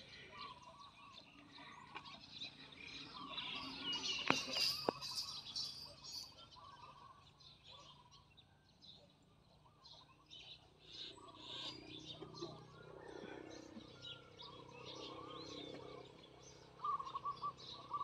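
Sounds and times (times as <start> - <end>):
birds chirping and warbling: 0.0 - 18.0.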